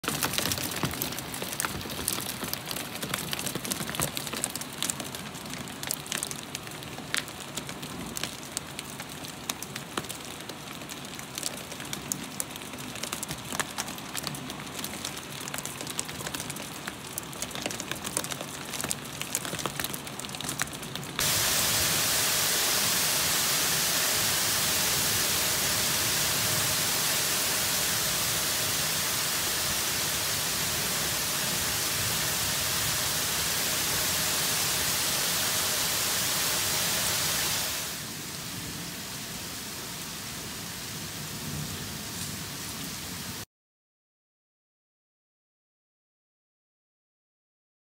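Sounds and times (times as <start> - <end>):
hail falling on paving and water: 0.0 - 39.2
heavy hail and rain hiss: 0.1 - 43.3.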